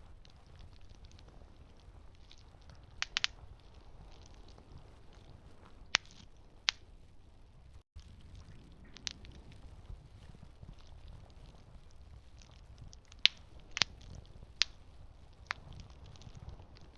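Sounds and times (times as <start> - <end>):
campfire crackling: 0.0 - 16.9
wood popping in fire: 0.0 - 16.9.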